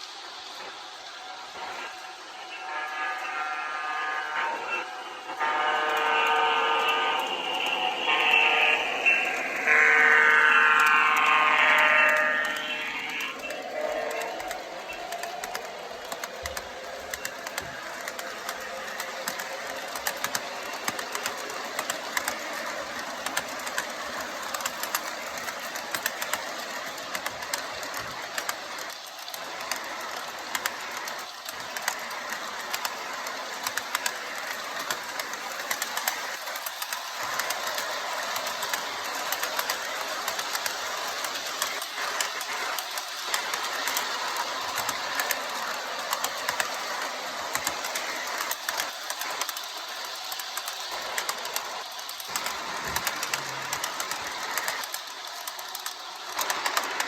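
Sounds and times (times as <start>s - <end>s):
model locomotive running hum: 0.0s - 57.0s
wheels clicking over track: 5.4s - 57.0s.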